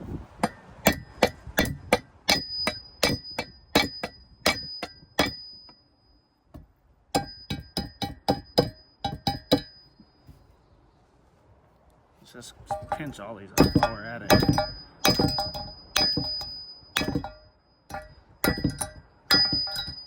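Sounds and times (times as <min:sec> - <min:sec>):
metal clanging with ringing tone: 0:00.4 - 0:10.5, 0:12.4 - 0:20.0.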